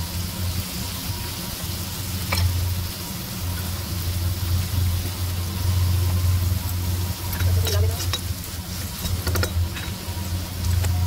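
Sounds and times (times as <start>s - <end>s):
low hum: 0.0s - 11.0s
onion sizzling in hot oil: 0.0s - 11.0s.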